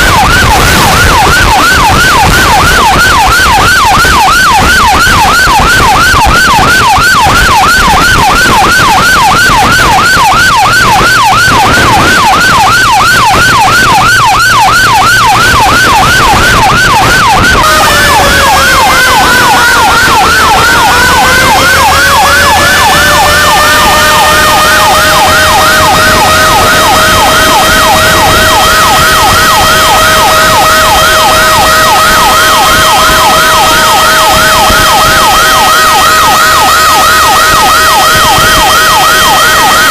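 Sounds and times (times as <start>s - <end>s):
fire truck siren yelp: 0.0s - 39.9s
siren wail: 0.0s - 39.9s.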